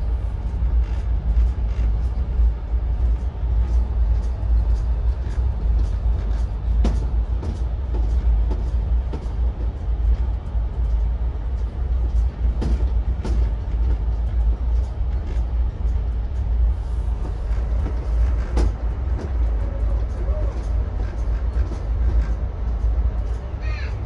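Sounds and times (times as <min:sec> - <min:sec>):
train rumble: 0:00.0 - 0:24.0
wheels clacking over rail joints: 0:00.5 - 0:24.0.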